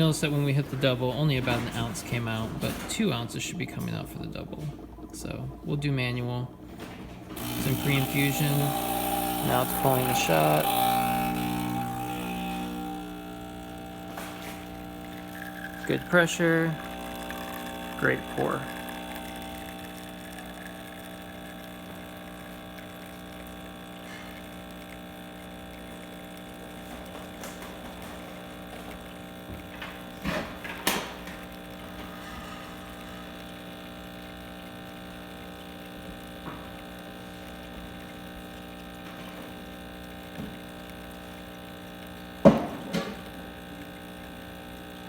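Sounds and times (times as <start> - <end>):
espresso flowing: 0.0 - 45.0
espresso machine pump humming: 0.0 - 45.0.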